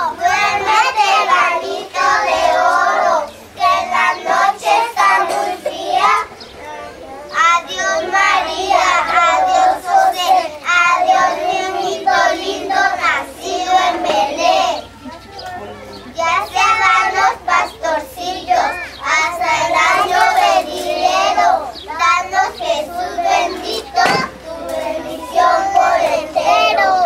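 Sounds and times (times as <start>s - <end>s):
children singing together: 0.0s - 15.0s, 15.6s - 27.0s.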